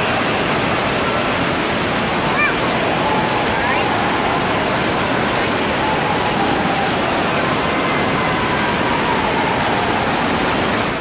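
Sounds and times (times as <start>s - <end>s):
pouring and splashing water: 0.0s - 11.0s.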